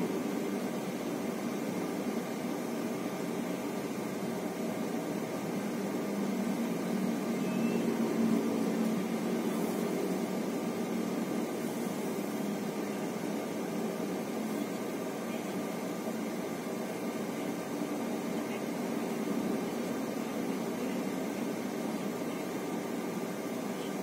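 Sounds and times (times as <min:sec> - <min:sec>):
rush of air in airliner cabin: 0:00.0 - 0:24.0.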